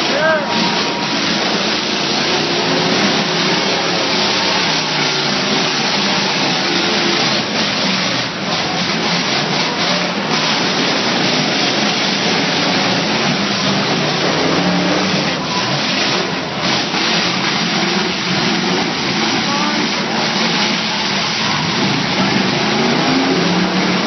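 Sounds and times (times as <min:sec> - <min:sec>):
truck engines revving loudly: 0:00.0 - 0:24.0.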